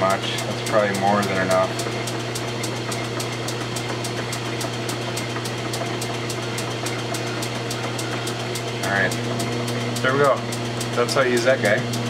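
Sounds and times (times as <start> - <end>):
metal lathe humming with ticks: 0.0 - 12.0.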